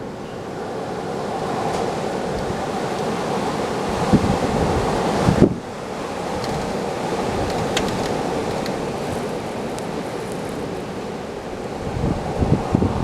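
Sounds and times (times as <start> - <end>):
wind rumbling on microphone: 1.2 - 13.0.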